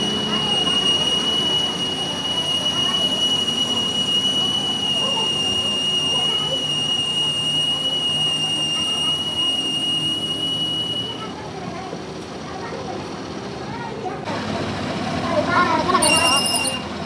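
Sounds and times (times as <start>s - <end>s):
workshop machine whining: 0.0s - 11.6s, 14.3s - 17.0s.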